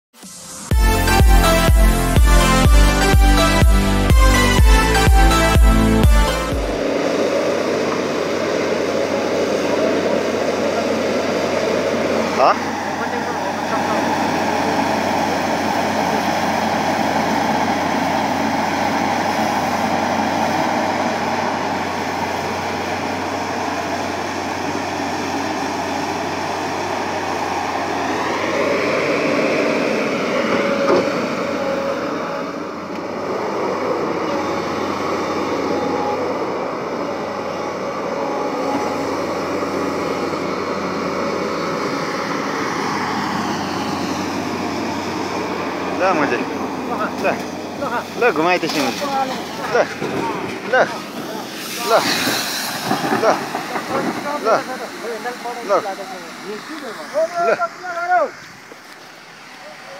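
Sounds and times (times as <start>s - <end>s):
excavator engine working: 0.2s - 59.9s.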